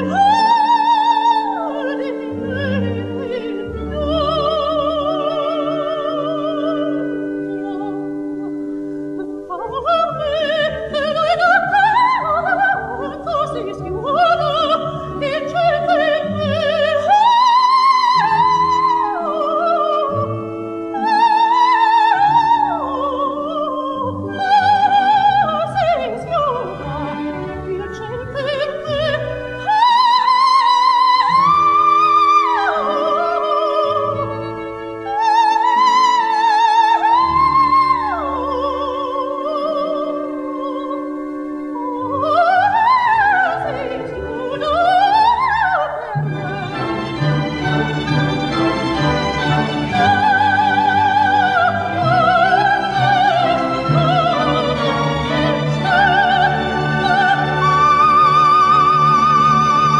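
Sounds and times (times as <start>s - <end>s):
orchestra strings and bass: 0.0s - 59.9s
soprano singing opera: 0.0s - 59.9s.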